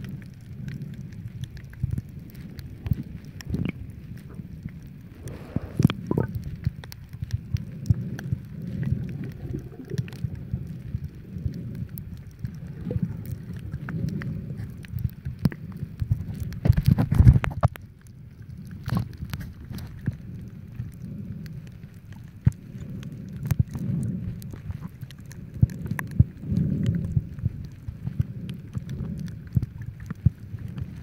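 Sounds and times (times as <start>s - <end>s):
muffled underwater rumble: 0.0s - 31.0s
sharp clicks and crackles: 0.0s - 31.0s.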